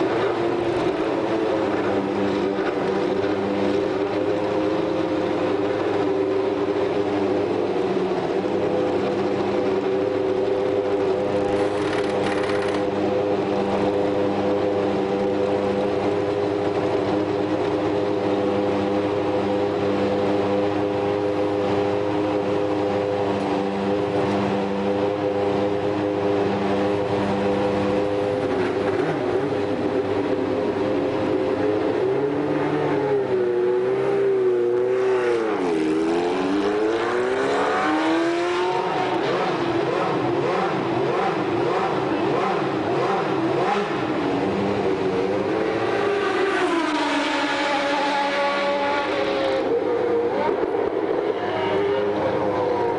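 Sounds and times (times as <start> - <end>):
engine revving: 8.2 - 52.9.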